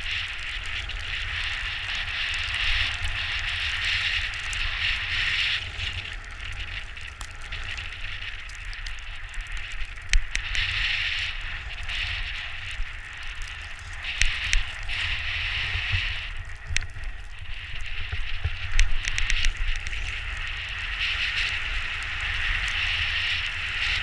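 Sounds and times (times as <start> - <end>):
crackling clicks: 0.0 - 24.0
high hiss: 0.0 - 24.0
low wind rumble on microphone: 0.0 - 24.0.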